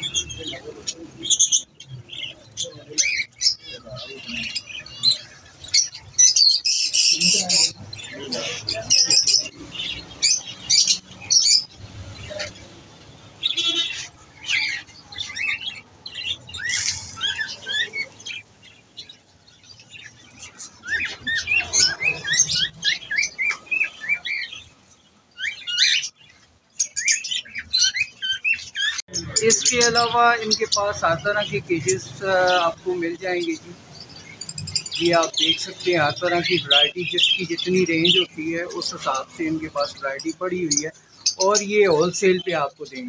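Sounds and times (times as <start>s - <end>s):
caged birds chirping and squawking: 0.0s - 43.0s.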